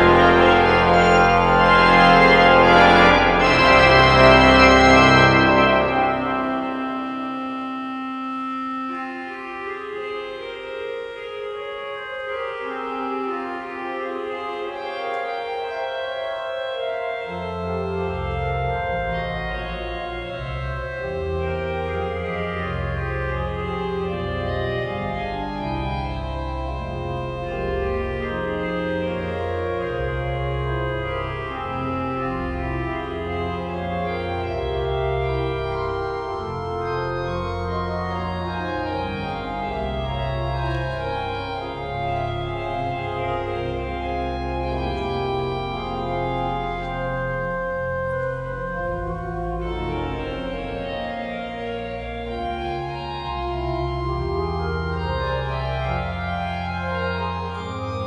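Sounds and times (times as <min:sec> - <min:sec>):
deep organ pedal bass: 0:00.0 - 0:58.0
pipe organ chords: 0:00.0 - 0:58.0.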